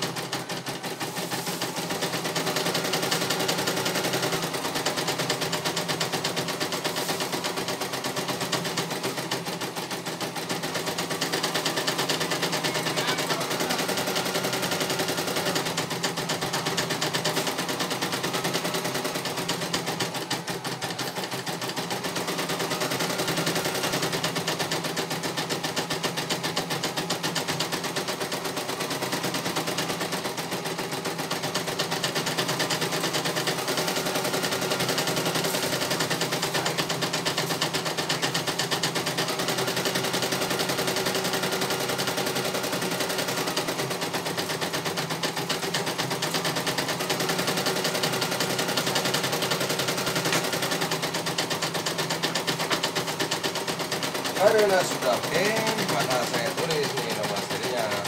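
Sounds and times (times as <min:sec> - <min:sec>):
embroidery machine needle clattering: 0:01.6 - 0:58.0.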